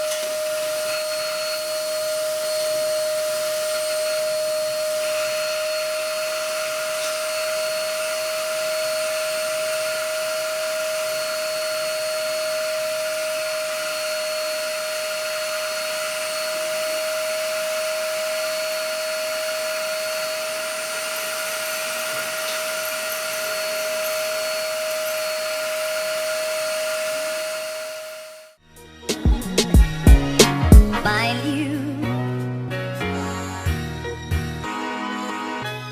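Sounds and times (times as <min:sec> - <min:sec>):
vacuum cleaner running: 0:00.0 - 0:31.2.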